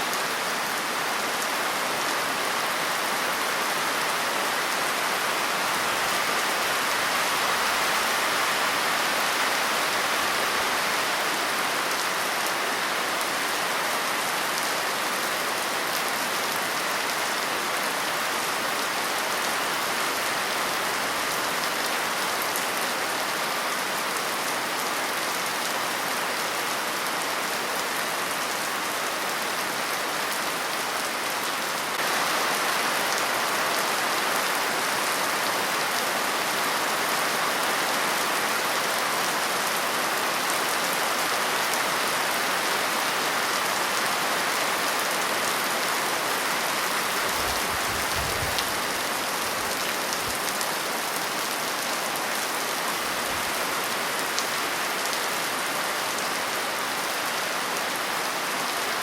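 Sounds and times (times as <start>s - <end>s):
steady rain on a surface: 0.0s - 59.0s.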